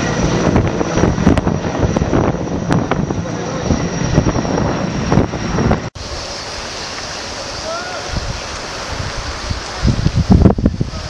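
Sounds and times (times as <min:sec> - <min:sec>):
helicopter flying overhead: 0:00.0 - 0:11.0
high steady whine: 0:00.0 - 0:11.0.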